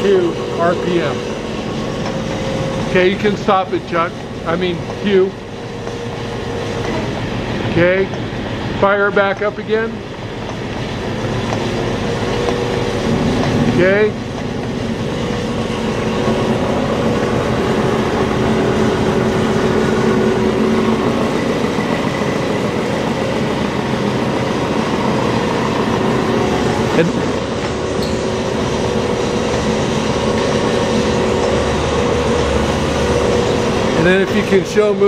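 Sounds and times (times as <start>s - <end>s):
lathe spindle humming and whining: 0.0s - 35.0s.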